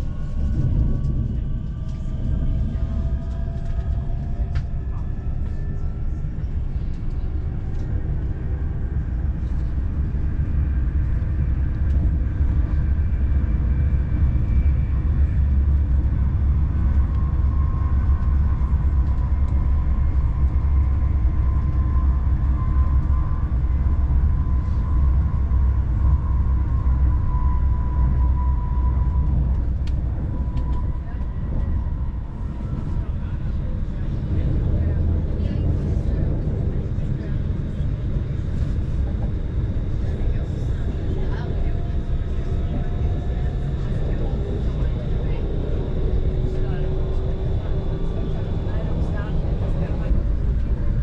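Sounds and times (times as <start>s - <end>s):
faint steady whine: 0.0s - 51.0s
train rumbling: 0.0s - 51.0s.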